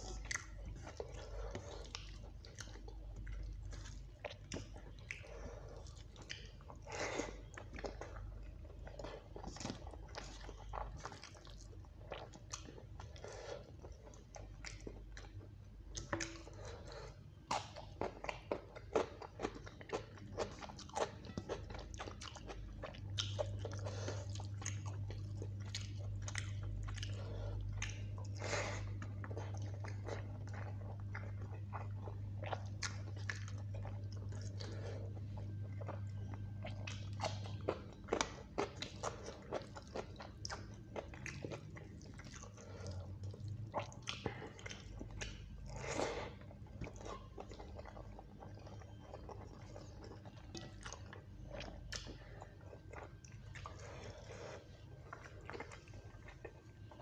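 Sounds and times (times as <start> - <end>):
low steady hum: 0.0 - 57.0
wet chewing and lip-smacking: 0.0 - 57.0.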